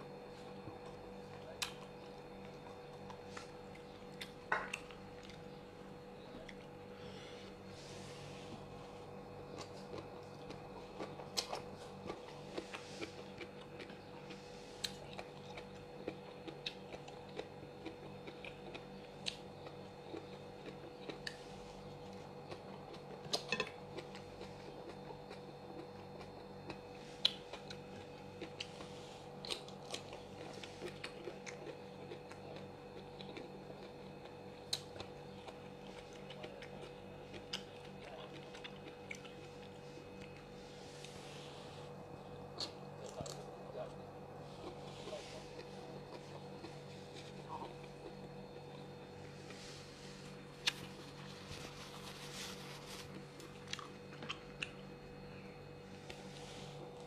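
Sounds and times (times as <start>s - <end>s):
person chewing and crunching food: 0.0s - 57.0s
steady low hum: 0.0s - 57.0s.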